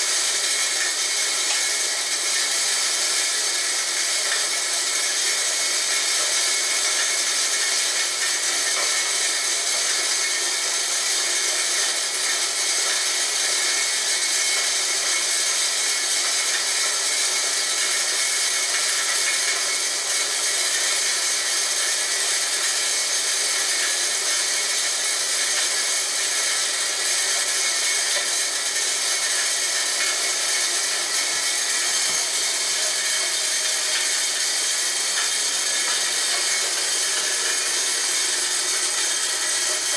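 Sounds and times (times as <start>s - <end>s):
corn grinder grinding: 0.0s - 39.9s.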